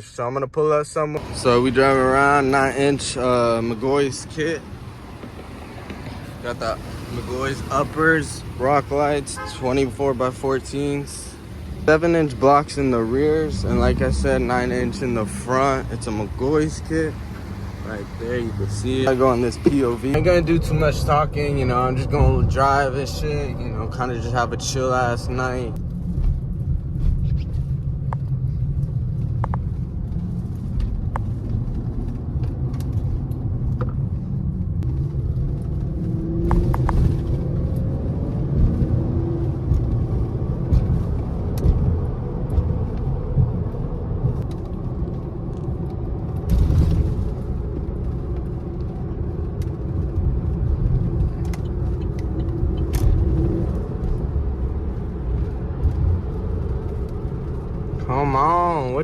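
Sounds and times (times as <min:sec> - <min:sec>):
pickup truck engine and road noise: 0:00.0 - 0:59.0.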